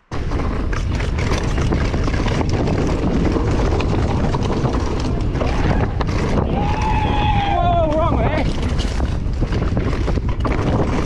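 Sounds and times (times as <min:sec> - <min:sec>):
bike rattles and knocks: 0:00.0 - 0:11.0
tyres rolling over dirt: 0:00.0 - 0:11.0
wind rush over microphone: 0:00.0 - 0:11.0.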